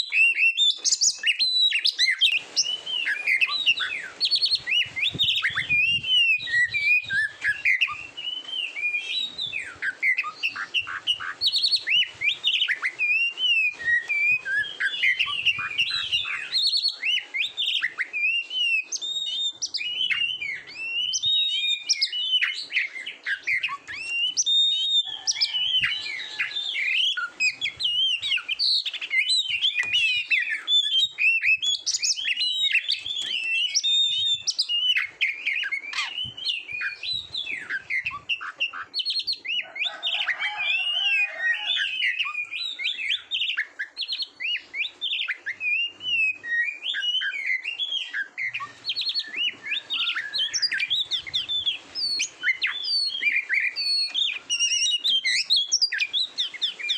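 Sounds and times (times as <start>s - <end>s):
bird singing whistled song: 0.0s - 56.9s.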